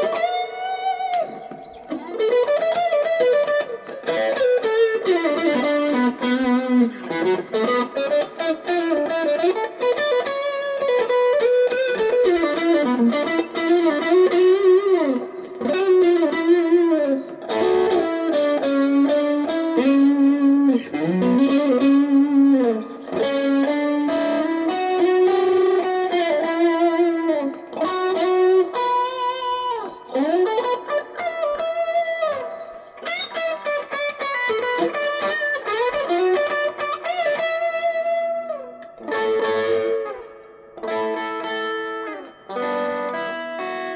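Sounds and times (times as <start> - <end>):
electric guitar lead melody: 0.0 - 43.9.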